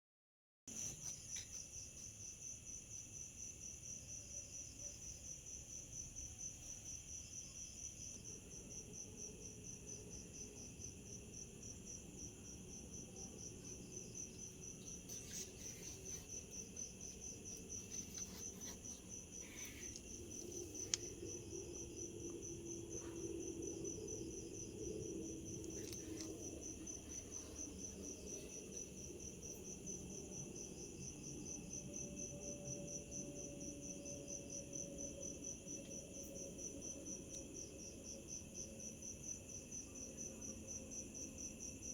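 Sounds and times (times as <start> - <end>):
faint low hum: 0.8 - 41.6
insects trilling: 6.0 - 41.7.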